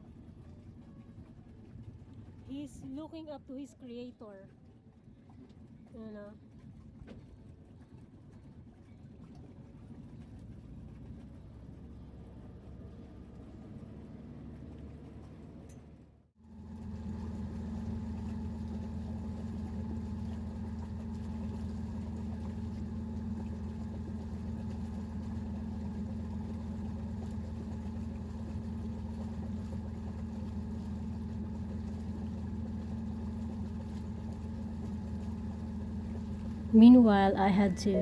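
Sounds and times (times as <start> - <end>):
boat engine running: 0.0 - 38.0.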